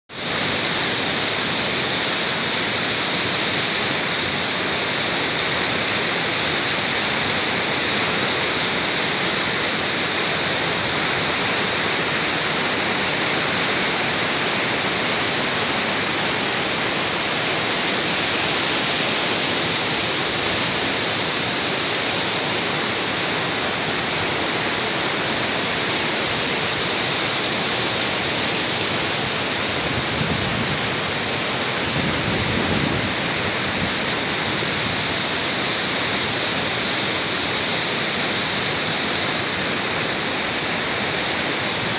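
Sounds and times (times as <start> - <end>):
river rapids rushing: 0.1 - 41.9.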